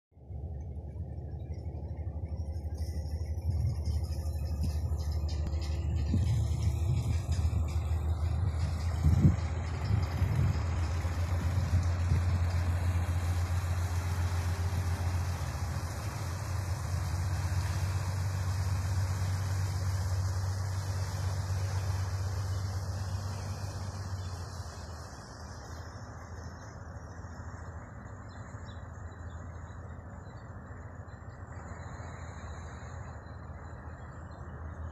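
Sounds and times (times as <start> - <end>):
boat diesel engine droning: 0.1 - 34.9.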